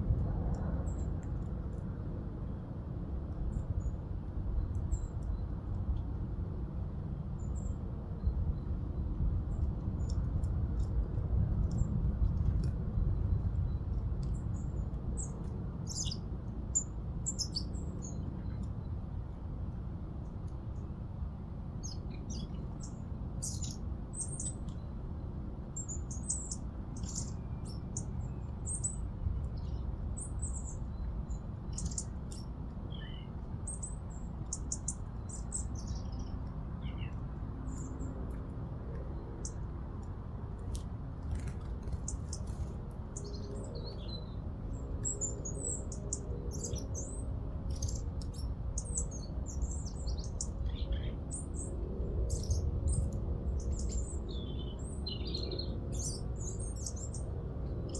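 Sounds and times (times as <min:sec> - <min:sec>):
small birds chirping: 0:07.4 - 0:19.0, 0:21.8 - 0:25.0, 0:25.7 - 0:57.9.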